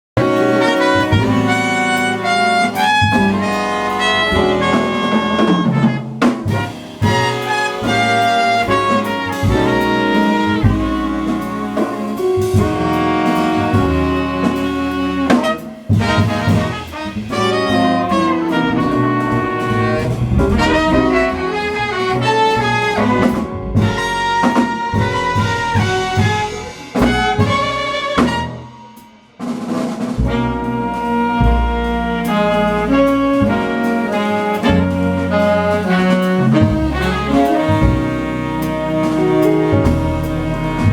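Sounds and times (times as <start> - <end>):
trumpet: 0.0 - 40.9
drum kit: 0.1 - 40.9
saxophone: 0.2 - 29.0, 30.2 - 40.9
jazz ensemble playing: 0.2 - 40.9.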